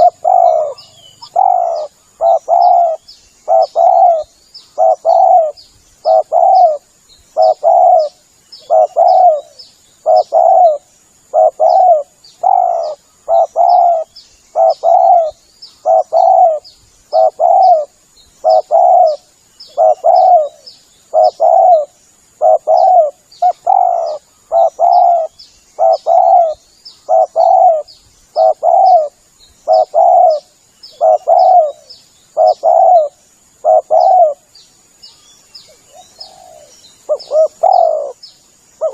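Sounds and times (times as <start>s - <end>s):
dove cooing: 0.0s - 6.8s, 7.4s - 34.5s, 35.7s - 38.2s.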